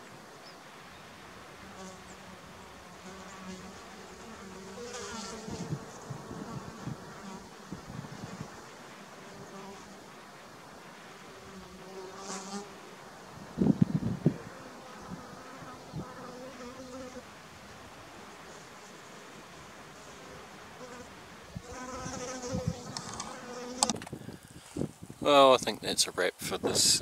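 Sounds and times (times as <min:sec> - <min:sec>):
flying insect buzzing: 0:01.6 - 0:25.1.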